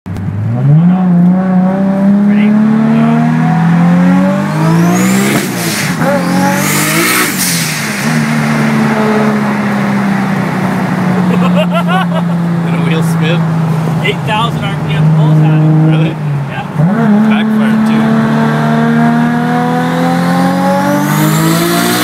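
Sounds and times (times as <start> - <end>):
car engine revving hard: 0.4 - 22.0.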